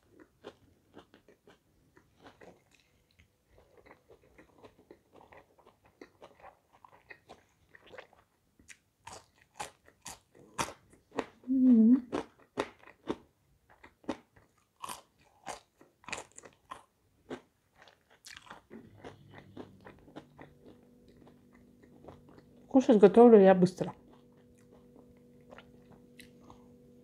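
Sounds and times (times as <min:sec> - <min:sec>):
chewing and crunching fries: 0:00.0 - 0:23.0, 0:23.8 - 0:26.8.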